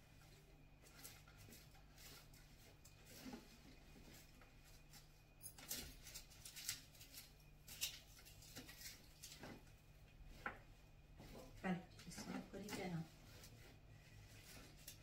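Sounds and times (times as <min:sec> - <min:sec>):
cloth rustling on plastic: 0:00.0 - 0:15.0.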